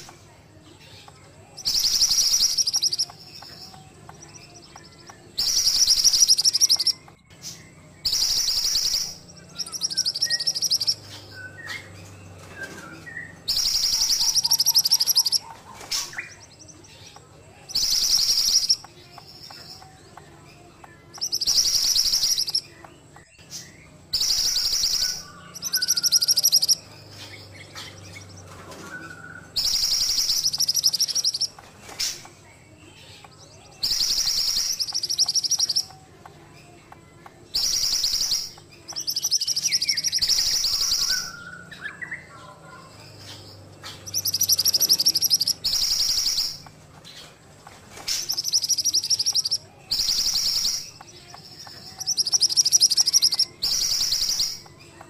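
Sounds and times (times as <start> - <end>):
songbird trilling: 0.0 - 47.4, 48.0 - 55.0
soft bird chirps: 0.0 - 55.0.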